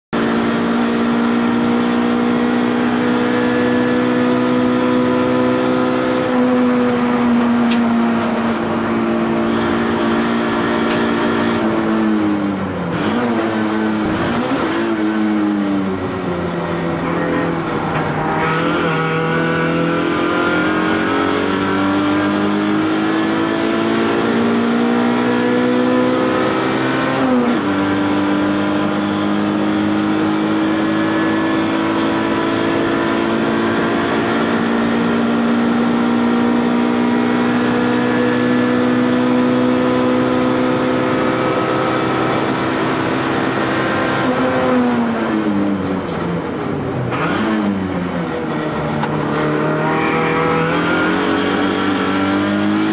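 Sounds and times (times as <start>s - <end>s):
car engine accelerating: 0.2s - 52.9s.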